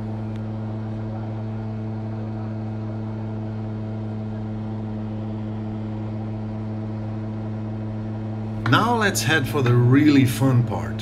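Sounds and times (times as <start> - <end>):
aircraft engine and propeller droning: 0.0 - 11.0.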